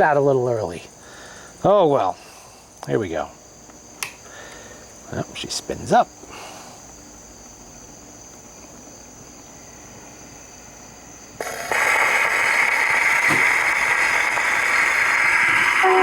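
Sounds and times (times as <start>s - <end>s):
record surface hiss: 0.0s - 16.0s.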